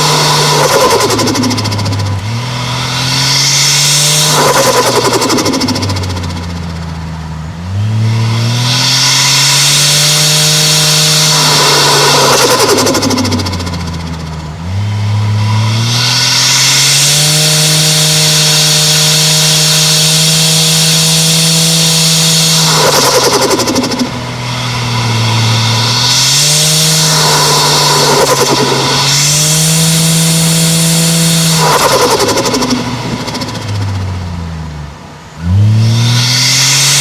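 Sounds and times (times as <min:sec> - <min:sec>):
turbo flutter: 0:00.0 - 0:07.2, 0:08.1 - 0:34.3
car engine revving: 0:00.0 - 0:37.0.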